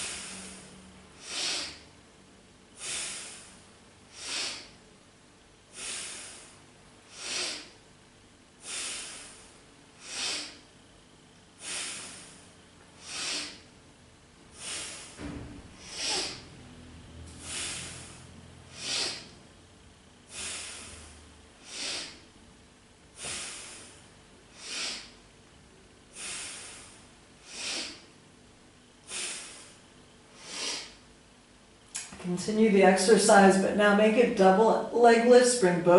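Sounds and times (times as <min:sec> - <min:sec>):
woman breathing rhythmically: 0:00.0 - 0:32.0.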